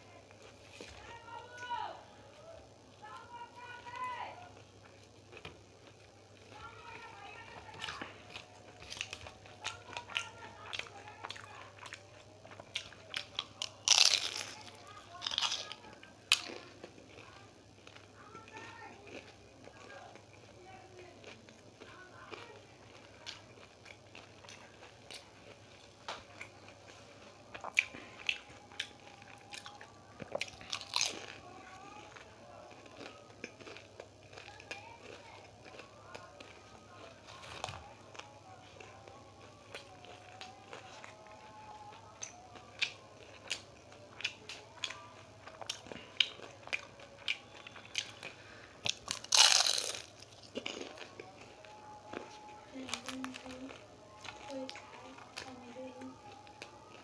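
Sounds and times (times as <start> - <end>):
chewing crispy food: 0.0 - 57.0.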